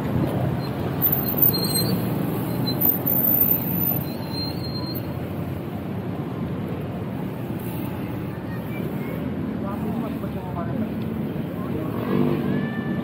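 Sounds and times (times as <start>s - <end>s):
tyre and road rumble: 0.0s - 13.0s.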